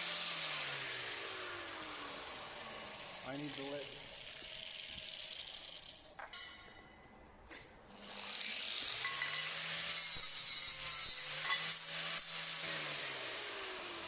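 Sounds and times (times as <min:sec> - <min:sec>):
angle grinder grinding steel: 0:00.0 - 0:06.2, 0:08.0 - 0:14.0.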